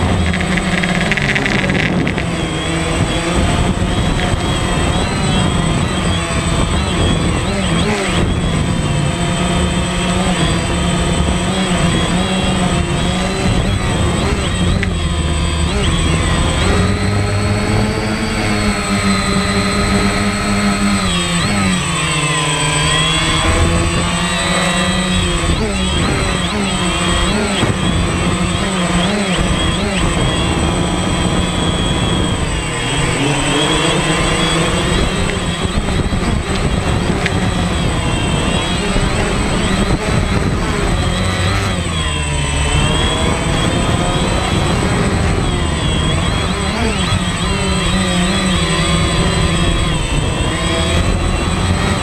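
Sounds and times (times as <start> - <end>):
drone propellers whining: 0.0 - 52.0
wind rumble on microphone: 0.0 - 52.0.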